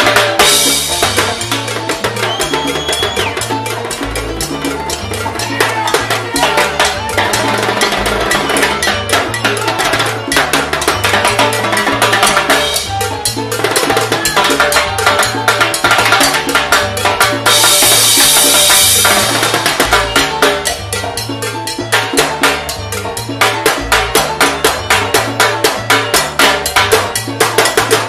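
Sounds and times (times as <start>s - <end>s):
pulsing bass line: 0.0s - 27.6s
fast timbales strikes: 0.0s - 28.0s
salsa band playing: 0.0s - 28.0s.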